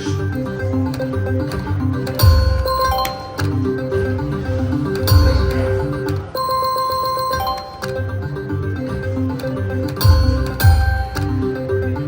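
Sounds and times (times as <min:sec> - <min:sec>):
electronic music loop: 0:00.0 - 0:12.0.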